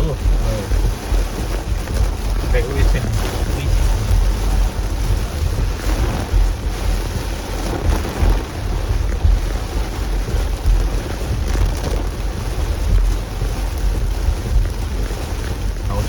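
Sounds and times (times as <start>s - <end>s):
gusting wind buffeting microphone: 0.0s - 16.0s
hard rain: 0.0s - 16.0s.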